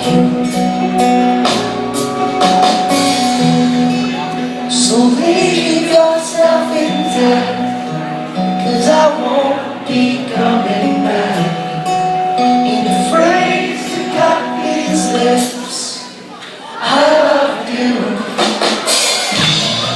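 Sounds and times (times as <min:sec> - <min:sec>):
live rock band playing: 0:00.0 - 0:16.3, 0:17.0 - 0:19.9.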